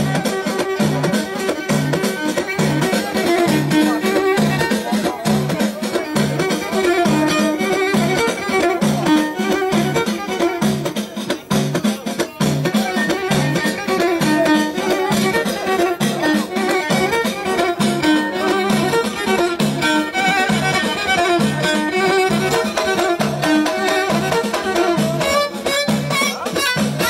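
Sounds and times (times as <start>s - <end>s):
violin melody: 0.0s - 11.5s, 12.6s - 27.0s
frame drums beat: 0.0s - 27.0s.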